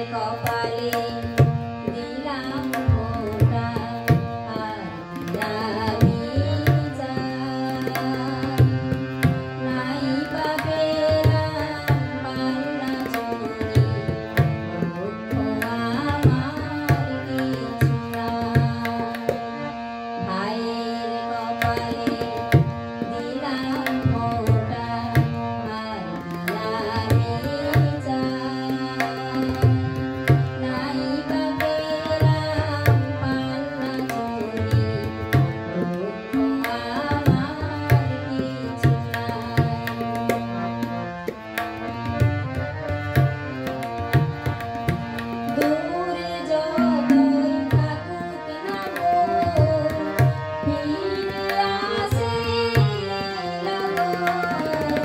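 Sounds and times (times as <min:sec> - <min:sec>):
woman singing: 0:00.0 - 0:19.6, 0:20.2 - 0:41.0, 0:43.0 - 0:55.0
harmonium: 0:00.0 - 0:55.0
tabla rhythm: 0:00.0 - 0:55.0.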